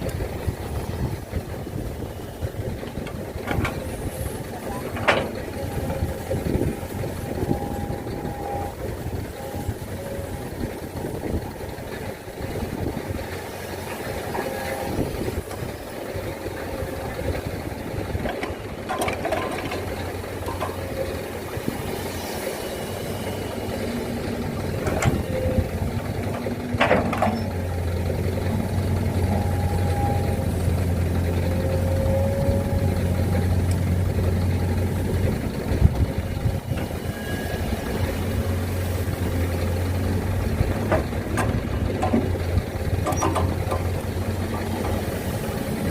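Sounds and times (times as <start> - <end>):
deep engine hum: 0.0 - 45.9
heavy diesel engine running: 0.0 - 45.9.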